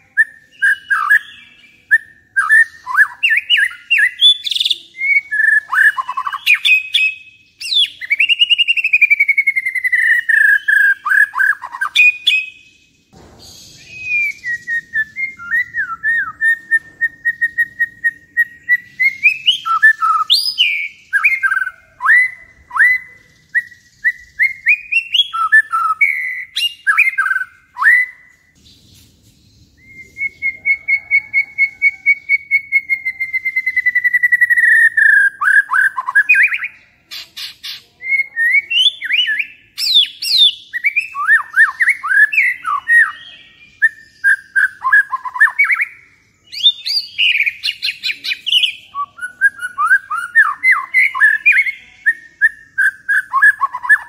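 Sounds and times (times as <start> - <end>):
bird singing varied whistles: 0.0 - 28.6, 29.7 - 54.0.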